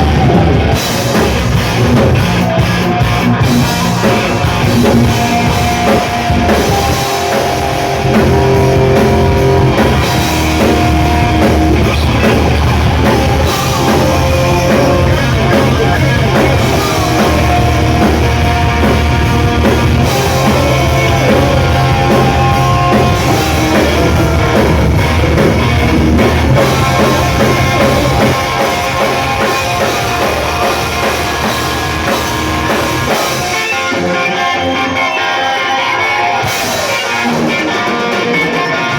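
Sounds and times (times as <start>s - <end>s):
bass guitar: 0.0s - 38.9s
distorted electric guitar: 0.0s - 38.9s
drum kit: 0.0s - 38.9s.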